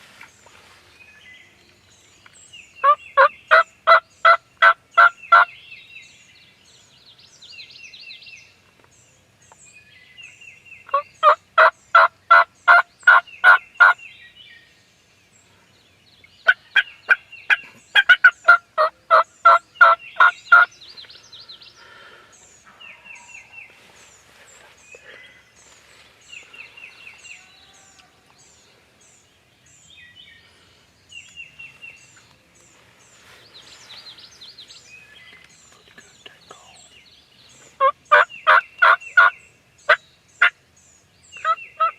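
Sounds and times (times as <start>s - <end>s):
small birds chirping faintly: 0.0s - 41.9s.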